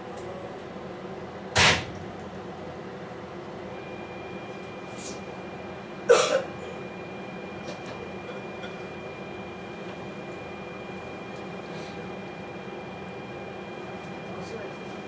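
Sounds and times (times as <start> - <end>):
diesel railcar engine drone: 0.0 - 15.0.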